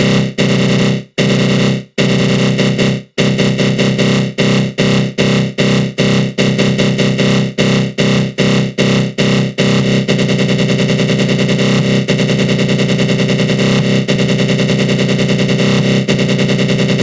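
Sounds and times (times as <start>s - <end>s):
buzzing synth growl pulsing: 0.0s - 17.0s.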